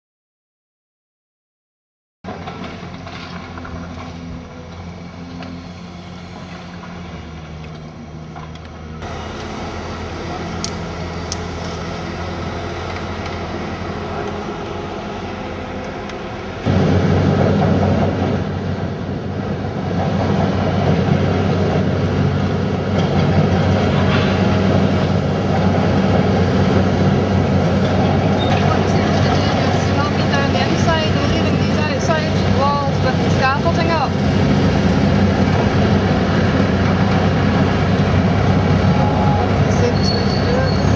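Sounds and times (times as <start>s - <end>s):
diesel engine running: 2.3s - 40.9s.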